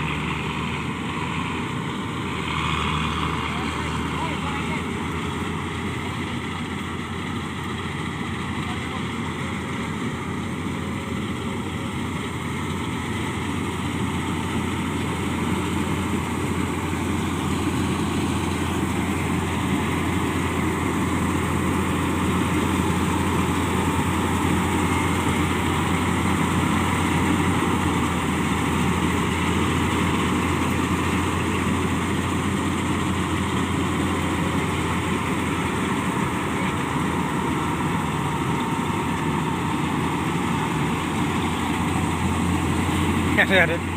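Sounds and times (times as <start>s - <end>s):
combine harvester engine droning: 0.0s - 43.9s.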